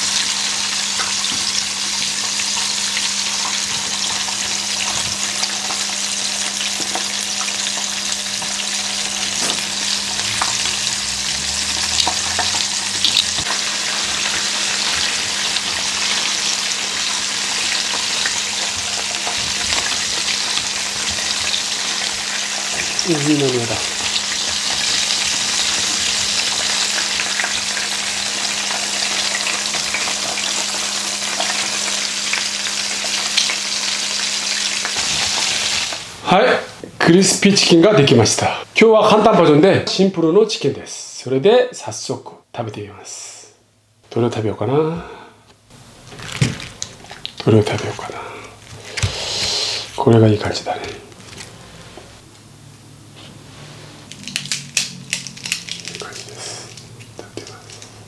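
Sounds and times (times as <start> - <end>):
oil sizzling and crackling: 0.0 - 36.8, 45.7 - 50.0, 51.0 - 58.0.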